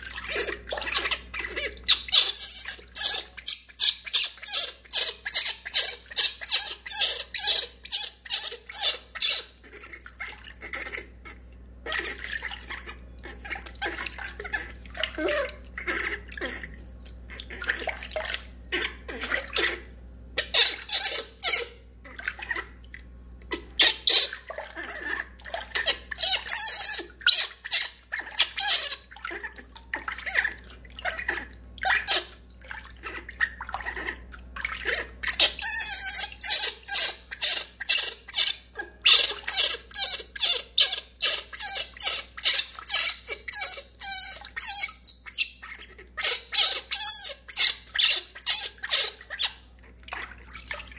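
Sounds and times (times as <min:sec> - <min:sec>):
water splashing in a basin: 0:00.0 - 0:50.9
baby monkey shrieking: 0:00.1 - 0:16.7, 0:18.7 - 0:19.8, 0:20.4 - 0:21.8, 0:23.5 - 0:32.4, 0:33.0 - 0:49.6.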